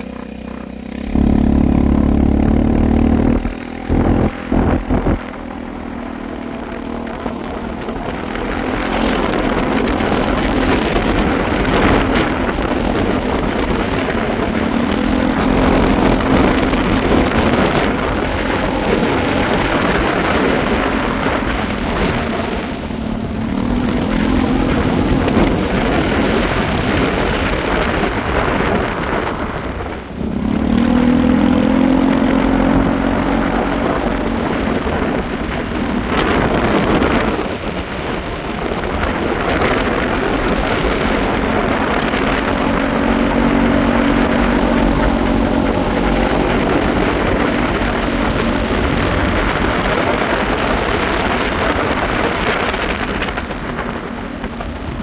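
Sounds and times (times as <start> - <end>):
motorcycle engine running: 0.0 - 55.0
wind rushing on microphone: 0.0 - 55.0.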